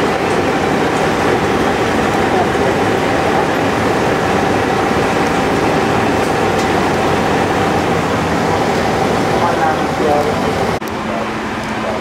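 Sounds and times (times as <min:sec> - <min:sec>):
diesel engine running: 0:00.0 - 0:12.0
steady whine: 0:00.0 - 0:12.0.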